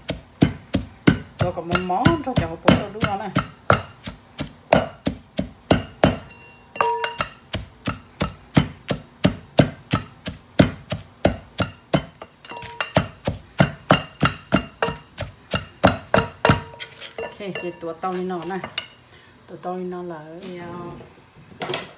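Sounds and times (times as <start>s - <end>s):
wooden pestle pounding in mortar: 0.0s - 17.8s.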